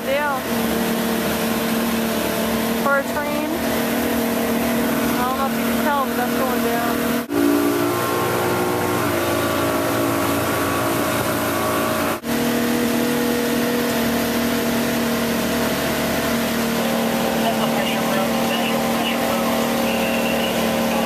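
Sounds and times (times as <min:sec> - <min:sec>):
motorboat engine humming: 0:00.0 - 0:21.0
water noise: 0:00.0 - 0:21.0.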